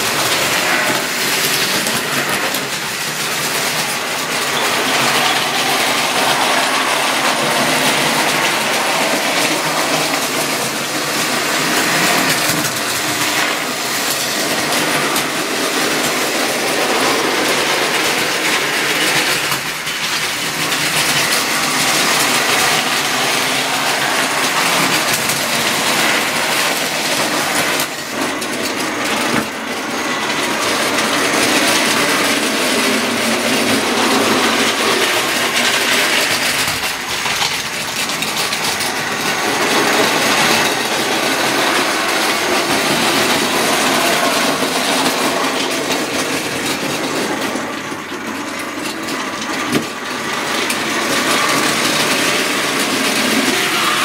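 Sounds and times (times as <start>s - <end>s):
model trains running on track: 0.0s - 54.0s.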